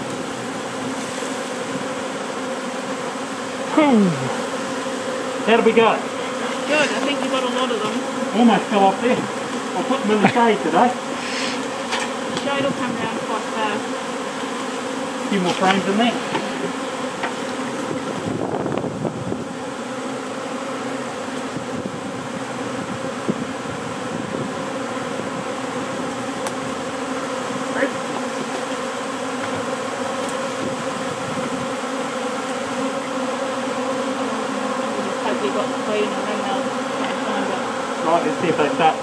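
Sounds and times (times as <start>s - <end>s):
bee swarm buzzing: 0.0s - 39.0s.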